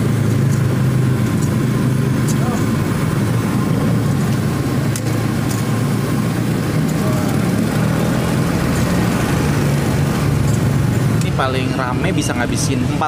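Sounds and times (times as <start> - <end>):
vehicle engines droning: 0.0 - 13.0.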